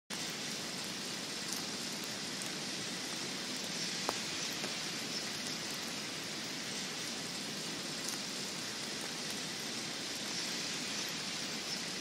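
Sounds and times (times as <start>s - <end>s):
wet snow hissing through branches: 0.1s - 12.0s.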